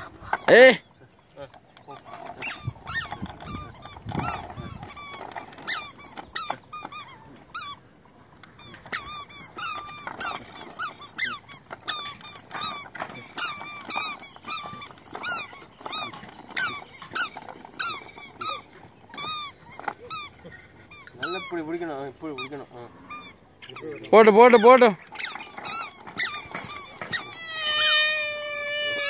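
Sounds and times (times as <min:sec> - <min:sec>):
wooden baby walker squeaking: 0:00.0 - 0:29.0.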